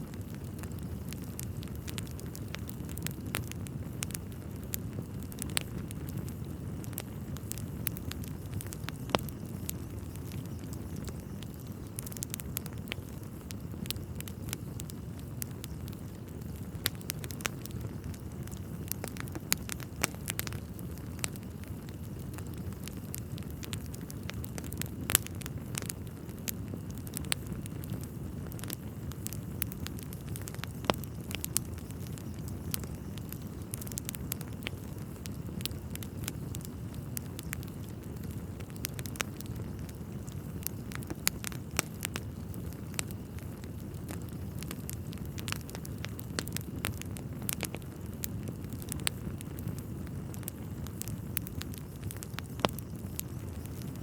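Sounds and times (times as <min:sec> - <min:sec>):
fire crackling and popping: 0:00.0 - 0:54.0
fire flames rumbling: 0:00.0 - 0:54.0.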